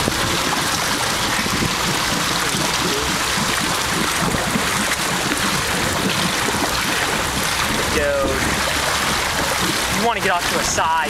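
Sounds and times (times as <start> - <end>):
water rushing and churning: 0.0 - 11.0.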